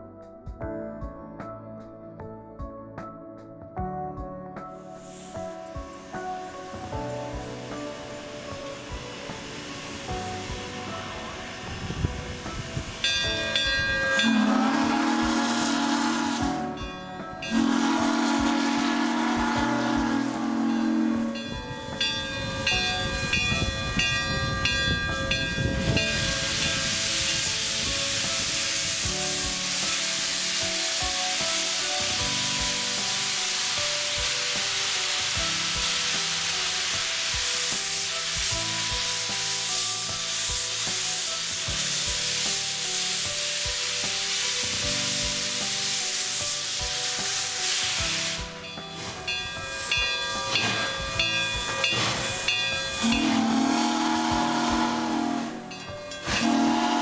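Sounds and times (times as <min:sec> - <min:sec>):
steam locomotive hissing steam: 0:04.8 - 0:57.0.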